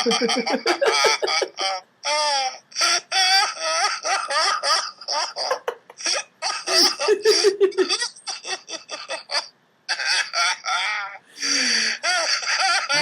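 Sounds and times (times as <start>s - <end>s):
men laughing: 0.0s - 1.8s, 2.8s - 13.0s.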